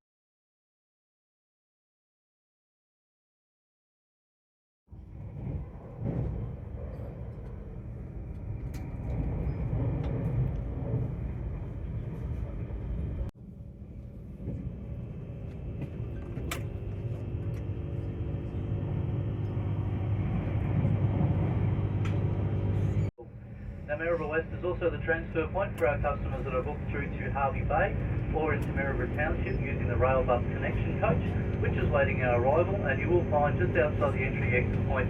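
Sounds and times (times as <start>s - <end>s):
faint hum: 4.9s - 35.0s
train rumbling: 4.9s - 35.0s.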